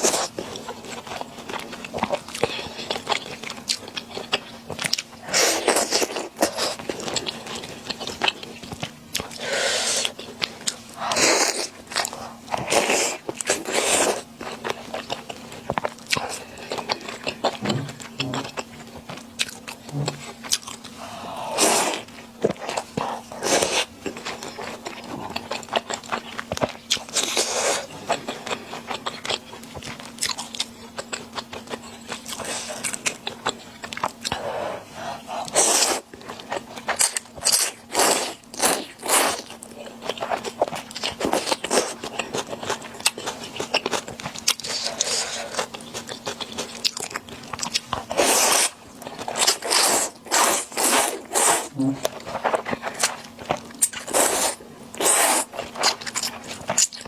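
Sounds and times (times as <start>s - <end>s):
faint steady hum: 0.0s - 57.0s
person chewing and crunching: 0.0s - 57.0s.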